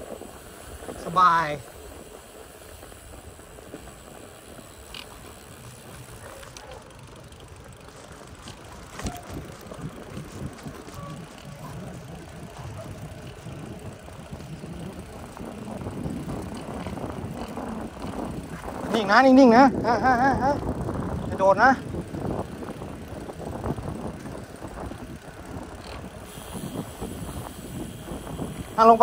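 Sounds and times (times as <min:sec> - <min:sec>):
bicycle clicks: 0:00.0 - 0:29.0
bicycle tyres rolling on asphalt: 0:00.0 - 0:29.0.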